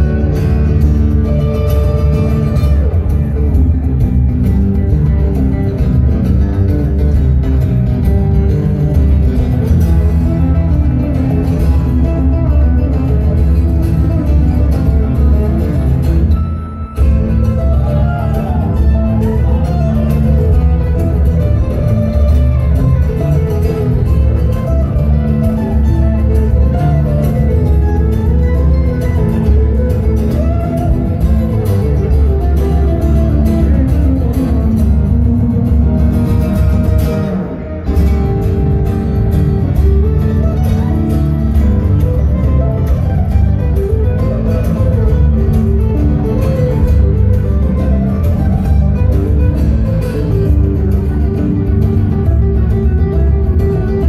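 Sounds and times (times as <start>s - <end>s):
acoustic guitar through speakers: 0.0s - 54.0s.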